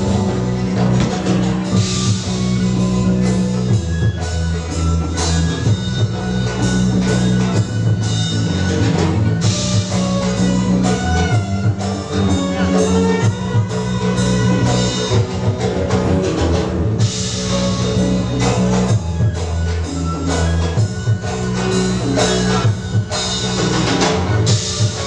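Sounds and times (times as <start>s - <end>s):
drums playing: 0.0s - 25.0s
plucked string instruments: 0.0s - 25.0s.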